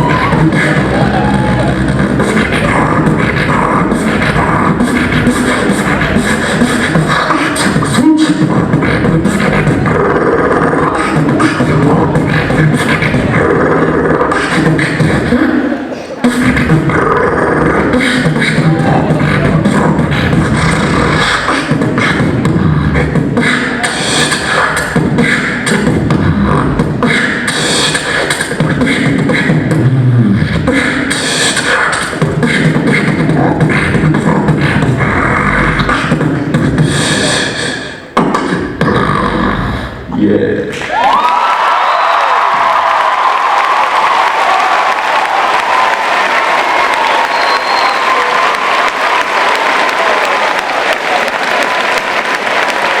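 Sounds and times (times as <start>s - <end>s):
beatboxing through speakers: 0.0s - 53.0s.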